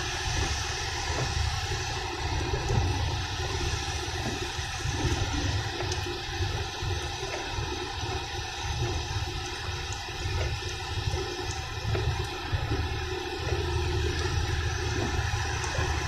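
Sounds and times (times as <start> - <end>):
engine and road rumble: 0.0 - 16.0
tyres hissing on wet road: 0.0 - 16.0.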